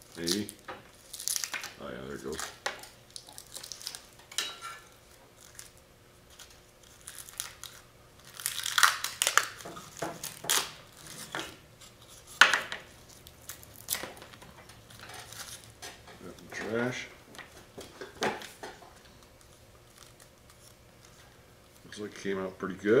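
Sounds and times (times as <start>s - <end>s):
plastic film peeling and crinkling: 0.0s - 4.2s, 5.0s - 21.9s.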